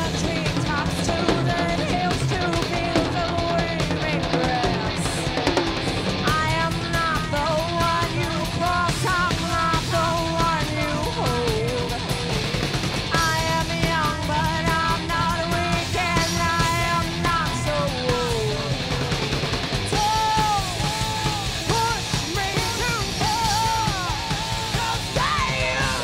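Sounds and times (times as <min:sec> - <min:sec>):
heavy metal band playing live: 0:00.0 - 0:26.0.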